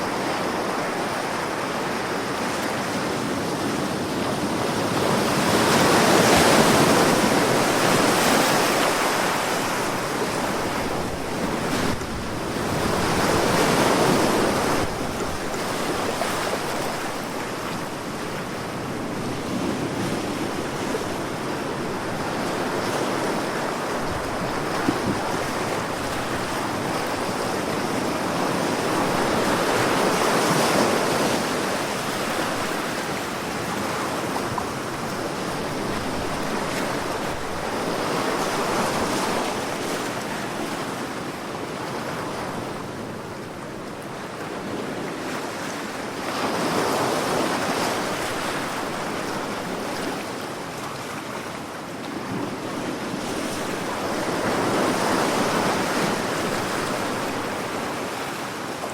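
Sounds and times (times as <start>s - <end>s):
sea waves breaking: 0.0s - 58.9s.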